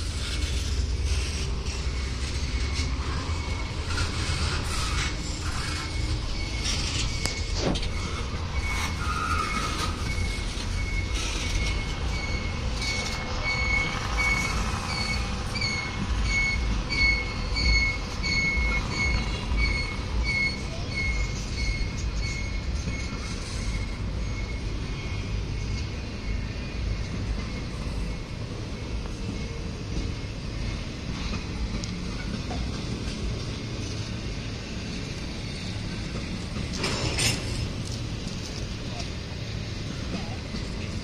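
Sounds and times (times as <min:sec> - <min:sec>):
freight train rumbling past: 0:00.0 - 0:41.0
train wheels squeaking: 0:00.0 - 0:41.0.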